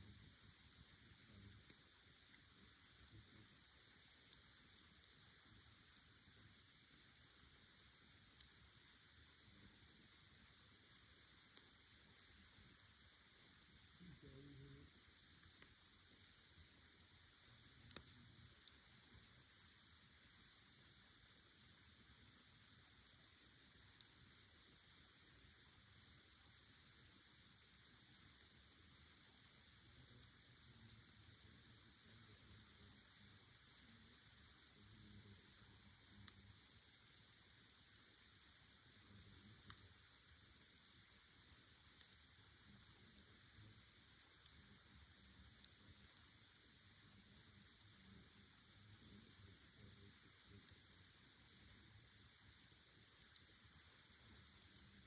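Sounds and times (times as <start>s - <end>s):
campfire crackles: 0.0s - 55.0s
crickets chirring: 0.0s - 55.0s.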